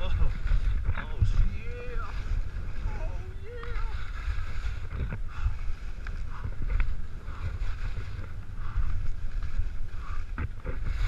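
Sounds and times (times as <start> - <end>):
skis scraping over snow: 0.0 - 11.0
wind buffeting microphone: 0.0 - 11.0.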